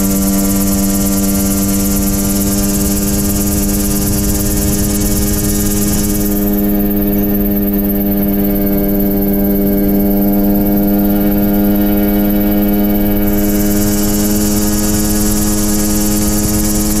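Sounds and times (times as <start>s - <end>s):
helicopter engine running: 0.0s - 17.0s.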